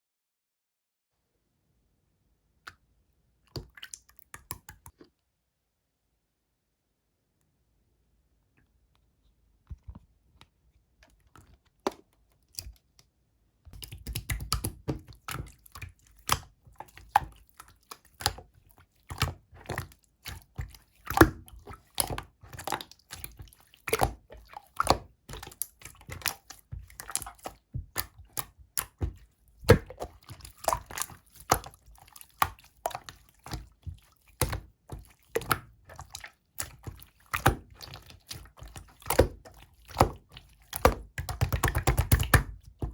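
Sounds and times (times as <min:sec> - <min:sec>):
slime squishing by hand: 0:03.5 - 0:05.2, 0:09.6 - 0:42.9.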